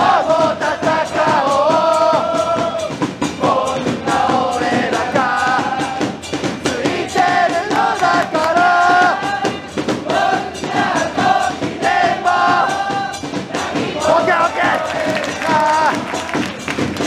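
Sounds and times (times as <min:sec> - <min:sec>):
crowd chanting in unison: 0:00.0 - 0:17.0
drum beats: 0:00.0 - 0:17.0.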